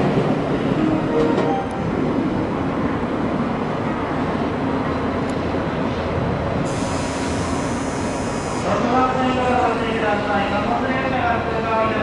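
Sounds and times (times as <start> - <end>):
train passing: 0.0 - 12.0.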